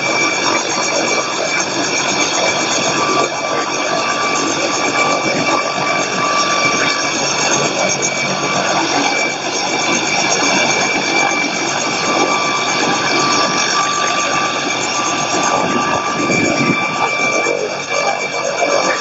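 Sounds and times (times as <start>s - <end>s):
helicopter rotor running: 0.0s - 19.0s.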